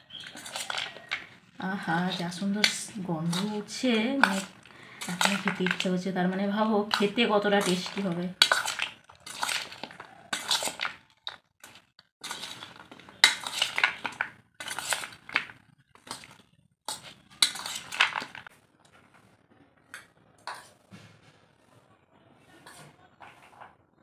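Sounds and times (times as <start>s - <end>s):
spoon scraping steel bowl: 0.0s - 18.5s, 20.5s - 20.8s, 22.6s - 23.7s.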